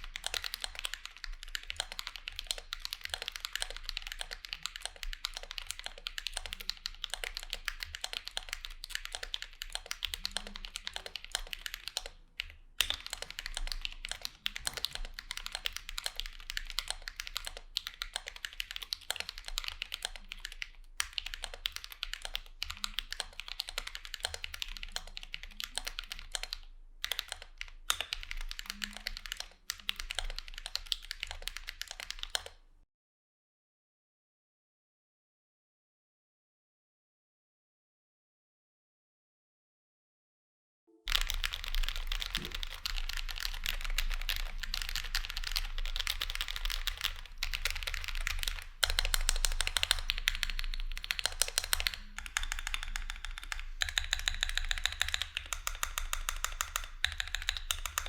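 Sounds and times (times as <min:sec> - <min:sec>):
typing on mechanical keyboard: 0:00.0 - 0:32.6, 0:41.1 - 0:58.0.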